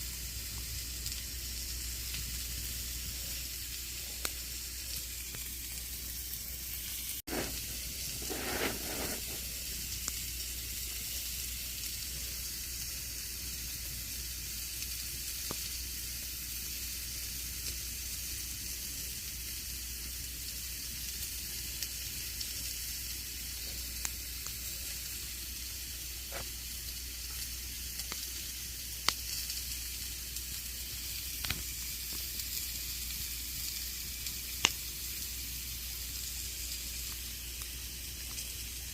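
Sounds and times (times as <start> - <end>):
campfire hissing: 0.0 - 38.9
fire crackles and pops: 0.0 - 38.9.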